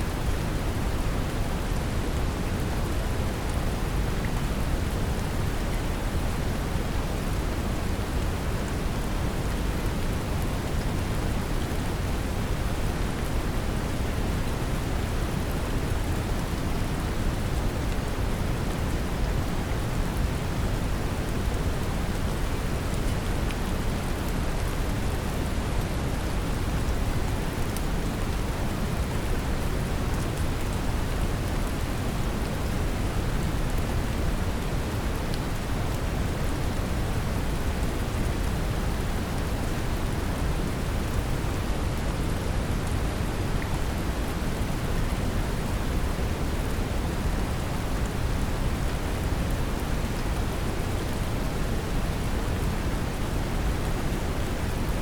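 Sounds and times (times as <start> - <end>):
brown noise rumble: 0.0 - 55.0.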